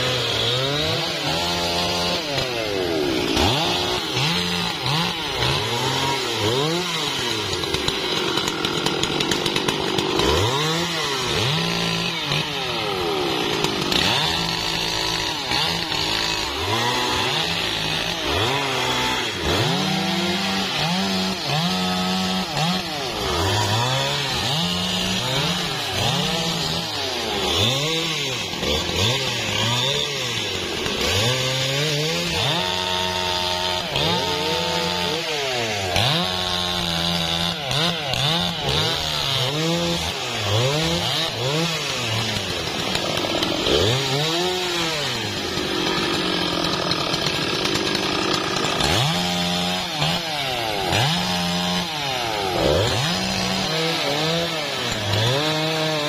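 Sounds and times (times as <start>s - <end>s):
chainsaws cutting logs: 0.0s - 56.0s.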